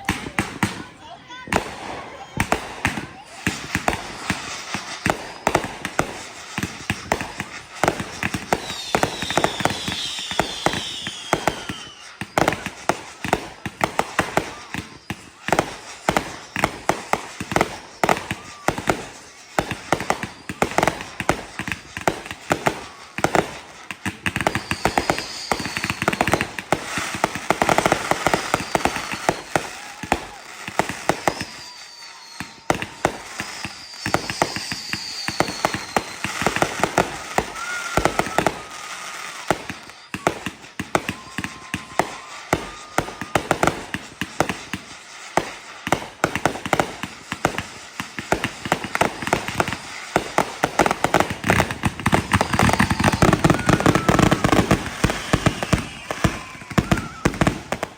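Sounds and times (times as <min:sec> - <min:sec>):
fireworks bangs and crackling: 0:00.0 - 0:57.9
falling whistles: 0:02.0 - 0:57.9.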